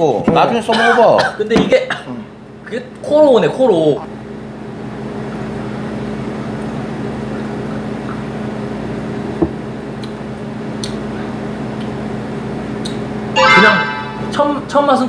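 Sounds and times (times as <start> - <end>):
room tone hum: 0.0 - 15.0.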